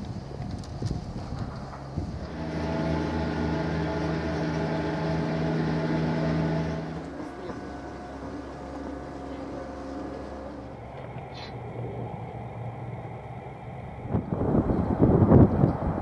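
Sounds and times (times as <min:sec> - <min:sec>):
cable car mechanical hum and whirr: 0:00.0 - 0:16.0.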